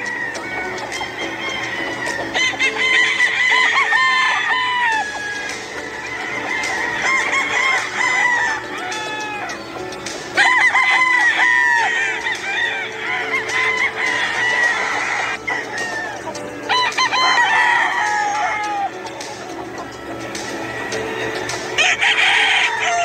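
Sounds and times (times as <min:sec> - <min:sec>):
chickens clucking: 0:00.0 - 0:23.0
roosters crowing: 0:00.0 - 0:23.0.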